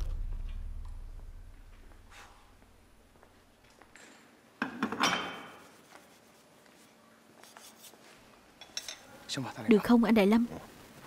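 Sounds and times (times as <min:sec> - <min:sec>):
quiet workshop background: 0:00.0 - 0:09.5.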